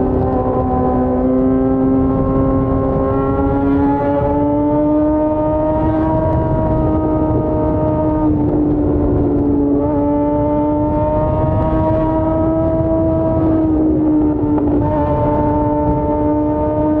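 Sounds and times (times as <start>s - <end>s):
low wind rumble: 0.0s - 17.0s
motorcycle engine running: 0.0s - 17.0s.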